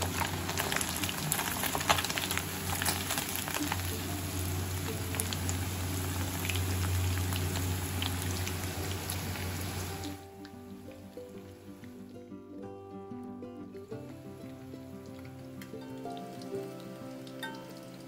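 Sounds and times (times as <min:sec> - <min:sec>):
fish frying in hot oil: 0:00.0 - 0:12.3, 0:13.7 - 0:18.0.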